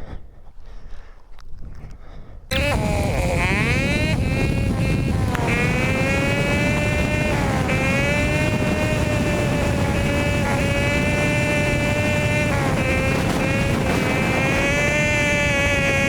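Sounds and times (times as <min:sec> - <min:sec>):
motorcycle engine running: 0:02.5 - 0:16.0.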